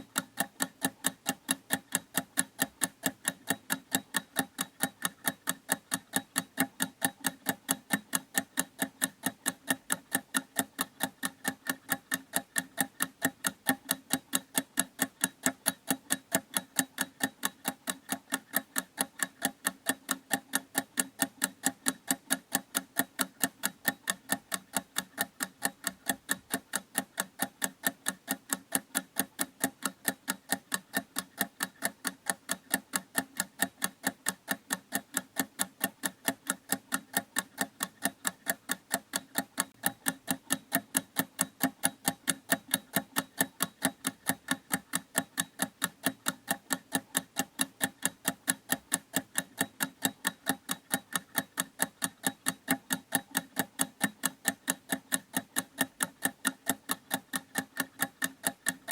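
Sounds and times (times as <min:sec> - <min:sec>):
mechanical clock ticking: 0:00.0 - 0:58.9.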